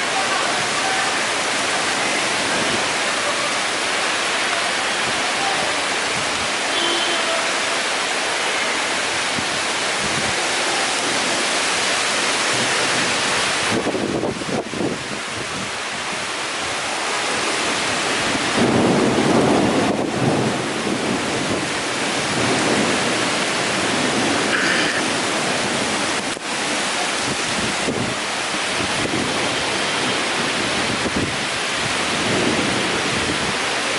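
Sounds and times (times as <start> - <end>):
strong wind gusting: 0.0 - 6.6, 8.8 - 33.9
heavy rain pouring: 0.0 - 33.9.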